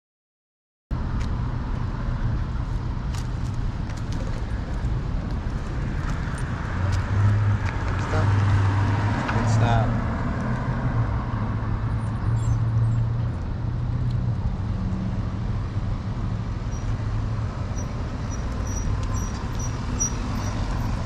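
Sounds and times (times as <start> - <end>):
car traffic: 0.9 - 21.0.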